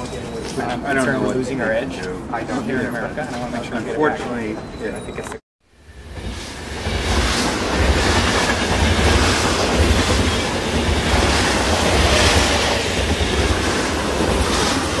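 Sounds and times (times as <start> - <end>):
train rumbling through station: 0.0 - 15.0.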